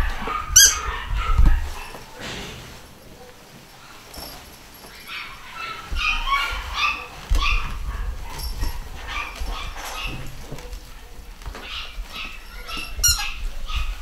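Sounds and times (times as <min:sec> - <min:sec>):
puppies yipping and whimpering: 0:00.0 - 0:02.2, 0:03.8 - 0:10.8, 0:11.4 - 0:14.0.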